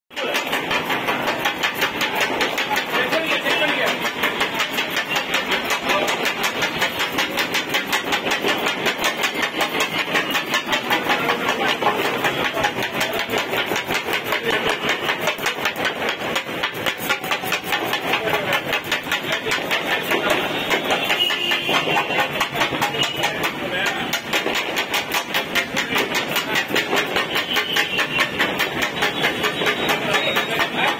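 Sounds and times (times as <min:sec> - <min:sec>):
metal blades chopping on griddle: 0:00.1 - 0:30.9.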